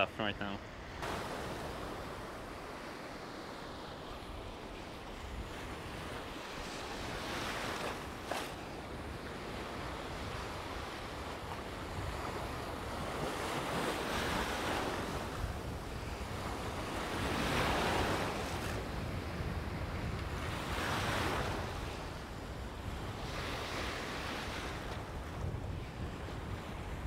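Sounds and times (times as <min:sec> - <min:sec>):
sea waves breaking: 0:00.0 - 0:27.0.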